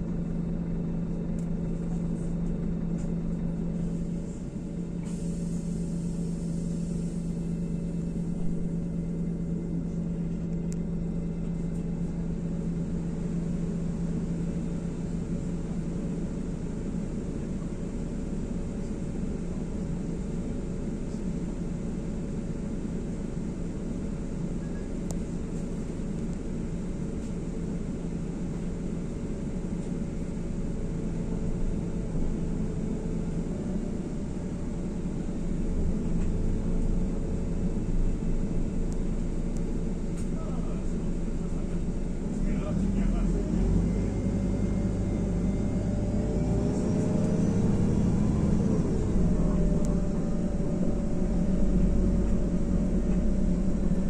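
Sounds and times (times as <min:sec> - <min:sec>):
bus engine and road noise drone: 0:00.0 - 0:54.0.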